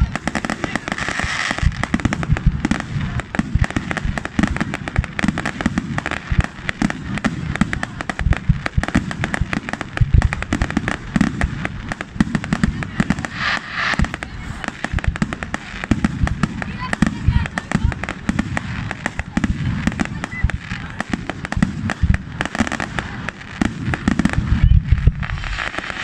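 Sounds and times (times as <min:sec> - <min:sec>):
fireworks crackling: 0:00.0 - 0:26.0
low firework bangs: 0:00.0 - 0:26.0.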